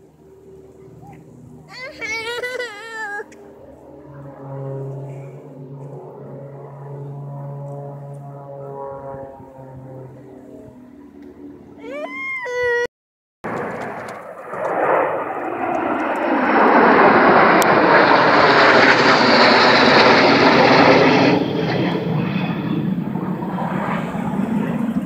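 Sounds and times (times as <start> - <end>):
airplane flying past: 0.0 - 12.8, 13.5 - 25.0.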